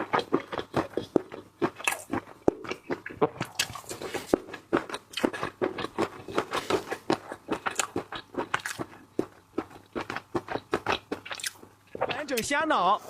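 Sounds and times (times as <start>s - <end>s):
wet chewing crunches: 0.0s - 12.5s.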